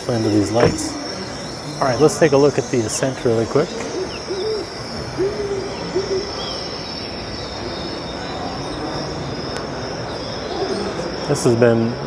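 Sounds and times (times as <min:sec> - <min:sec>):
background hubbub: 0:00.0 - 0:12.0
crickets chirping: 0:00.0 - 0:12.0
owl hooting: 0:00.7 - 0:11.3.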